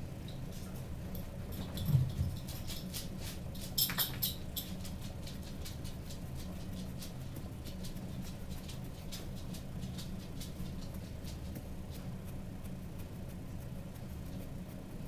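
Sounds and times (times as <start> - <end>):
steady low hum: 0.0 - 15.0
fidget spinner ticking and scratching: 2.0 - 15.0.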